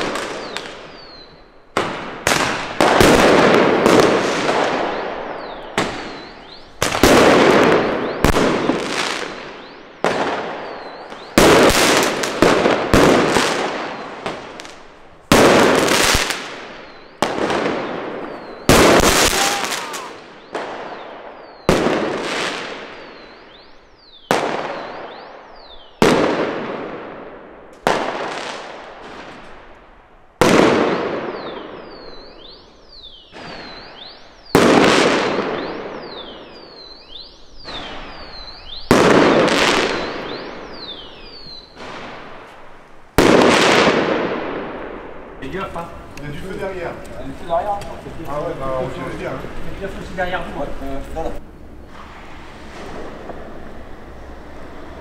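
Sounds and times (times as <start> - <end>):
firework shells bursting with echo: 0.0 - 55.0.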